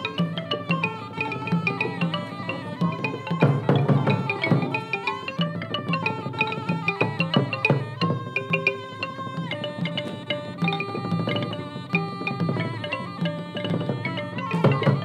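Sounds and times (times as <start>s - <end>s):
held melody: 0.0s - 15.0s
regular drum beats: 0.0s - 15.0s.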